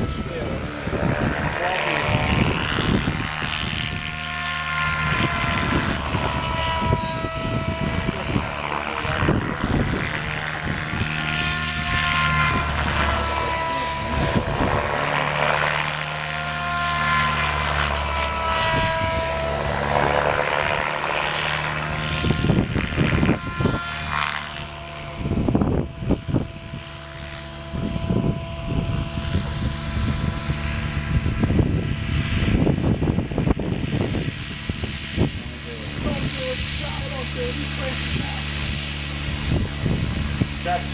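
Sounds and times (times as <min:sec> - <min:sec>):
high whine: 0:00.0 - 0:40.9
model aircraft motor: 0:00.0 - 0:40.9
wind buffeting microphone: 0:00.0 - 0:40.9.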